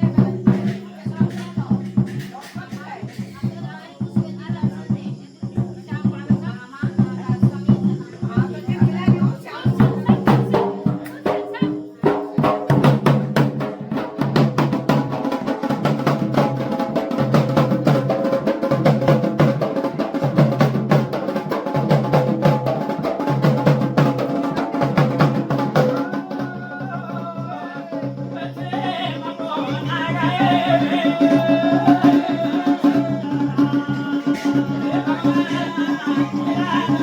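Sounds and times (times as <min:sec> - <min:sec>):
fast dense drumming: 0:00.0 - 0:37.0.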